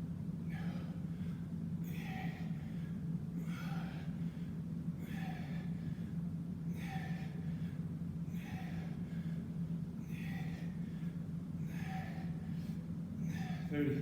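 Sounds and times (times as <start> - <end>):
man breathing hard: 0.4 - 13.8.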